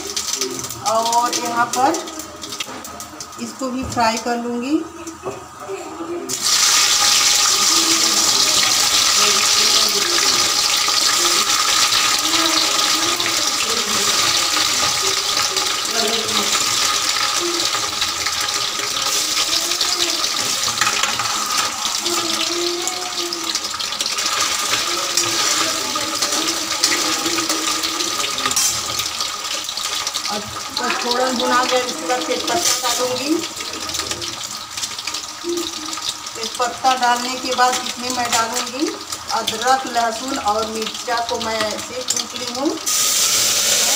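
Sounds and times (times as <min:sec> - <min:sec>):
eggs sizzling in hot oil: 0:00.0 - 0:43.9.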